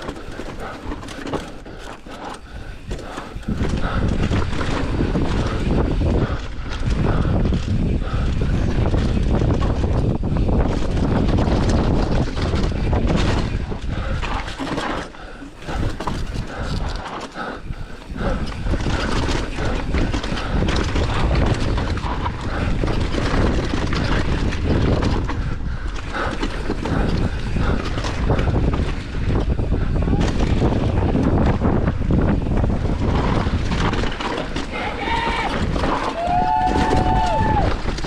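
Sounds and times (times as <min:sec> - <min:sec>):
bike frame and chain rattling: 0:00.0 - 0:38.0
wind on microphone: 0:00.0 - 0:38.0.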